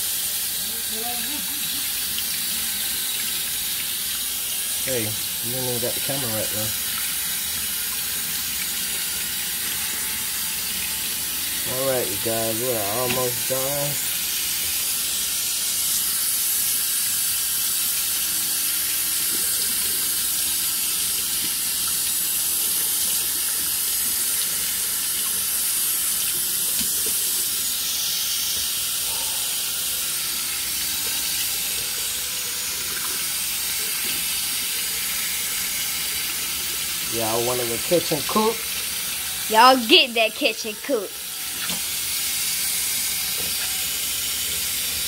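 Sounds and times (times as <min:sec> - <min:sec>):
faucet running into steel sink: 0:00.0 - 0:45.0.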